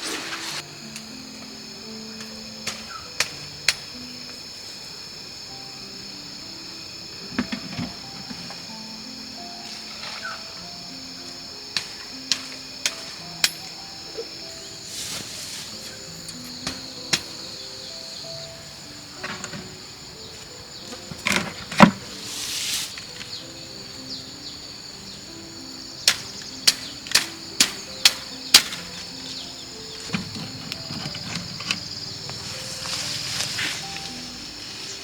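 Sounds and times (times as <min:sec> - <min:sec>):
shrill insect buzzing: 0:00.0 - 0:35.0
soft background music: 0:00.0 - 0:35.0.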